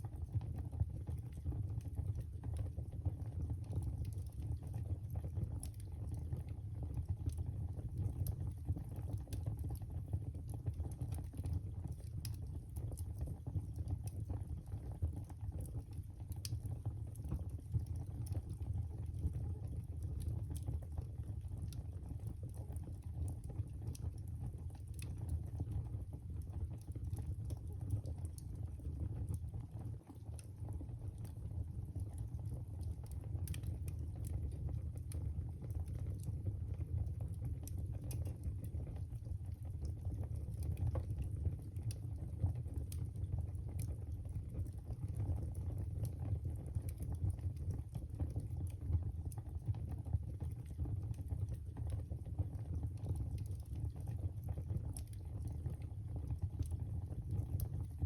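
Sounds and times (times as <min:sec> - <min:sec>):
fire burning in fireplace: 0:00.0 - 0:58.0
fire crackles and pops: 0:00.0 - 0:58.0.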